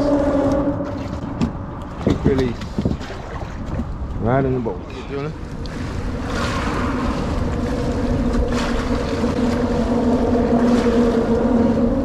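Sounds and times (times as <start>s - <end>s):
motorboat engine droning: 0.0s - 2.5s, 3.1s - 12.0s
wind on microphone: 0.0s - 12.0s.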